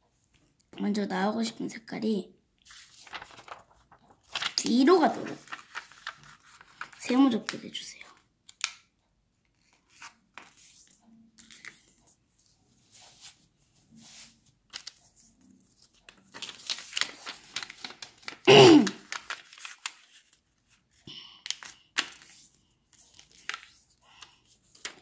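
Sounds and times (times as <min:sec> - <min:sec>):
paper rustling and creasing: 0:02.6 - 0:08.8, 0:09.5 - 0:25.0.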